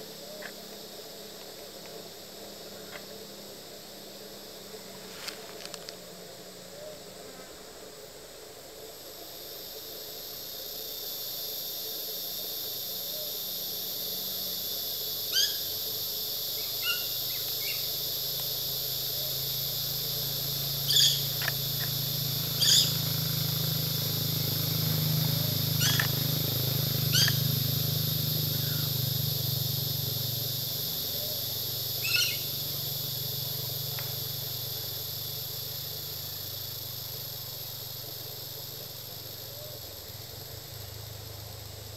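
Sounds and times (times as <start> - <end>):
steady high-pitched hiss: 0.0 - 41.9.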